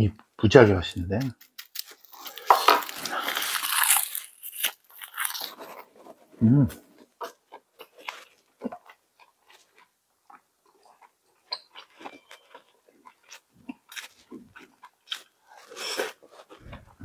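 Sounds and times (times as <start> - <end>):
person chewing and crunching: 1.5 - 6.2, 7.0 - 17.0.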